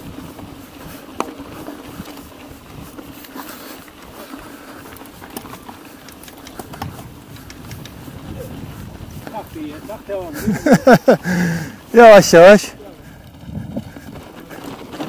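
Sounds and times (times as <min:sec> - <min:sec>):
bike clicks and rattles: 0:00.0 - 0:15.0
bike rolling over dirt track: 0:00.0 - 0:15.0.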